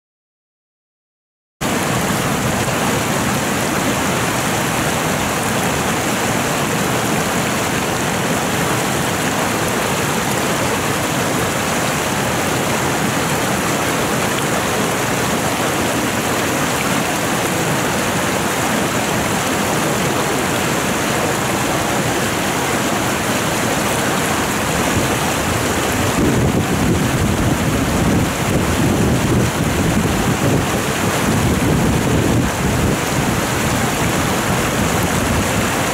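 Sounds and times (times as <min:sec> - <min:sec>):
river rushing over rocks: 0:01.6 - 0:35.9.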